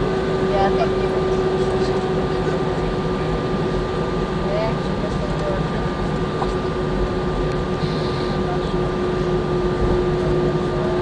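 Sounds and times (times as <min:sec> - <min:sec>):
jet engines and airflow rushing: 0:00.0 - 0:11.0.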